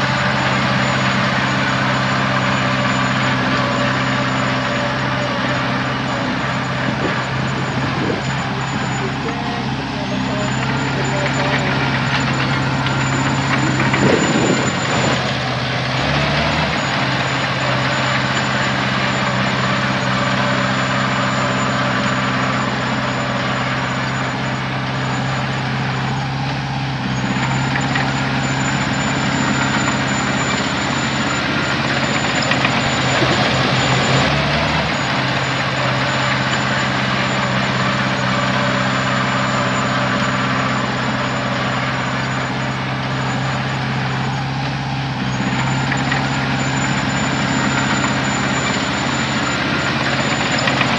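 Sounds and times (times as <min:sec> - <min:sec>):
heavy diesel engine running: 0:00.0 - 0:50.9
thin high whine: 0:00.0 - 0:50.9.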